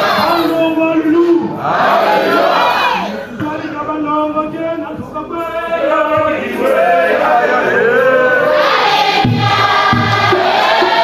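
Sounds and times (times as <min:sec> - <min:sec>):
congregation singing: 0:00.0 - 0:11.0.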